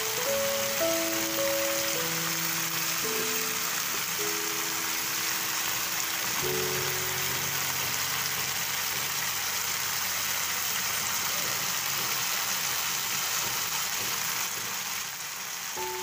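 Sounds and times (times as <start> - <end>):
onion sizzling in hot oil: 0.0 - 16.0.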